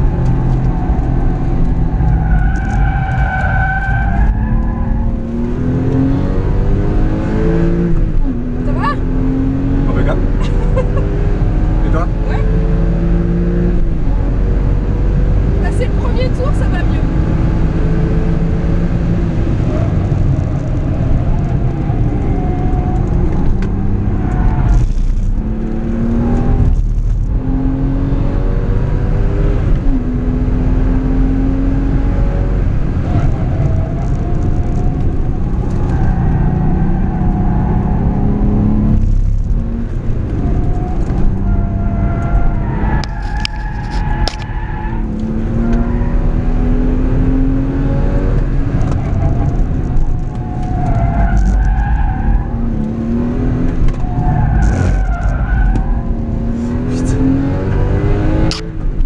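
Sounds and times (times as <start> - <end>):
car engine pulling hard: 0.0 - 59.0.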